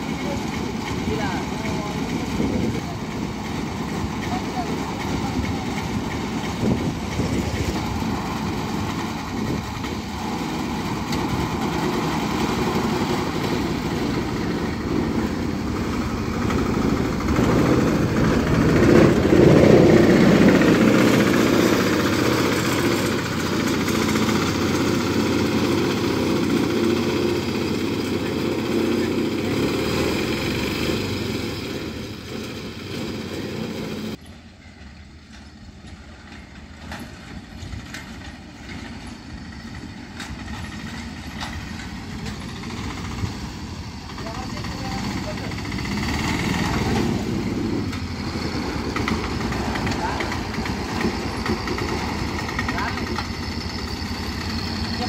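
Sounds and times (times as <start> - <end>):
small three-wheeler engine running: 0.0 - 34.3, 35.8 - 55.0.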